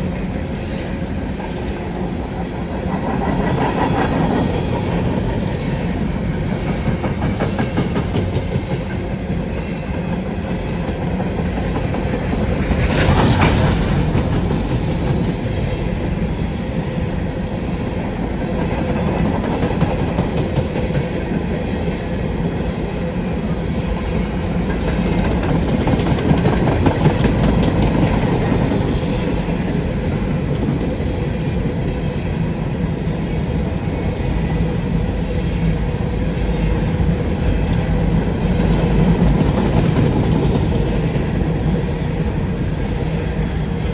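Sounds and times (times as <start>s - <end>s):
train wheels clattering over rails: 2.0s - 43.9s.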